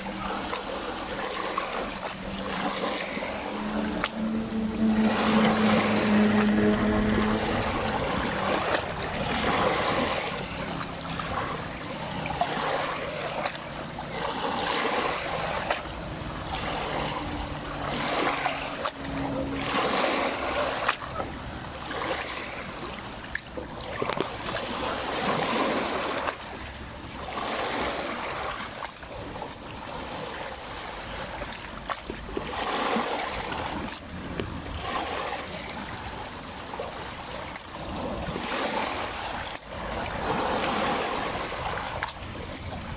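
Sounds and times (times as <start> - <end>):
faint boat motor hum: 0.0 - 42.9
lake waves lapping on shore: 0.0 - 42.9.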